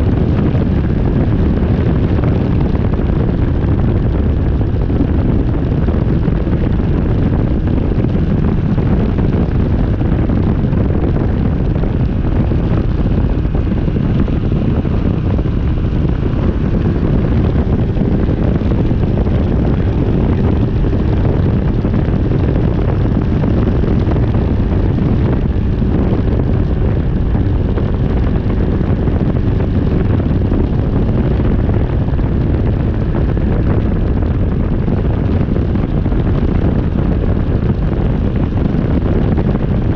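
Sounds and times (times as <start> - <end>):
two-stroke engine running steadily: 0.0 - 39.9
wind buffeting microphone: 0.0 - 39.9.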